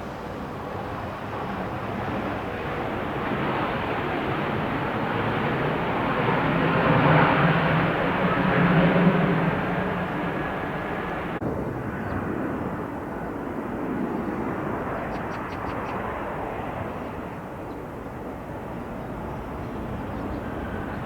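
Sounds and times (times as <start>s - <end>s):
jet engine rumble: 0.0s - 21.0s.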